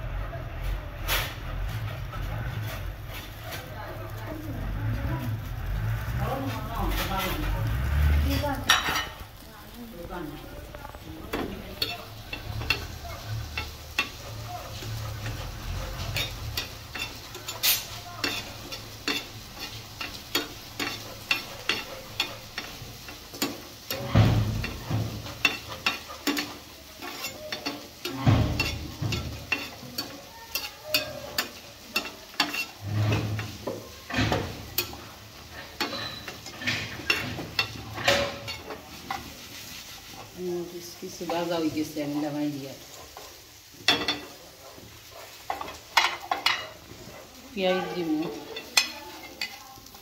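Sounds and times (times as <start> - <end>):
oil sizzling: 0.0 - 50.0
spatula scraping a pan: 0.6 - 50.0.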